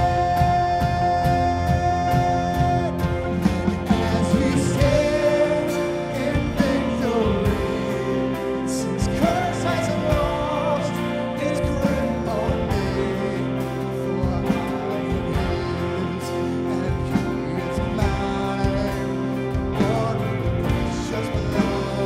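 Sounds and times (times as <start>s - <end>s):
acoustic guitar: 0.0s - 22.0s
electric guitar melody: 0.0s - 22.0s.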